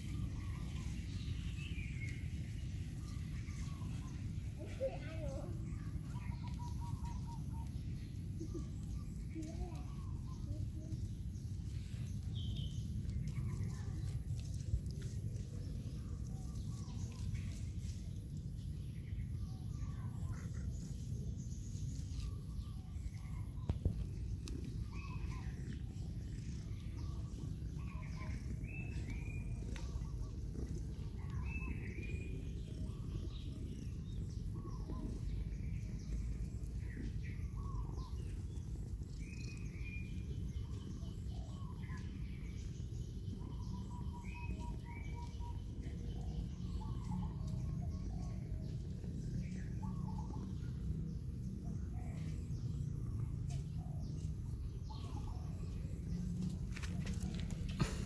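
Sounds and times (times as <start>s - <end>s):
birds chirping: 0.0s - 58.0s
low background rumble: 0.0s - 58.0s.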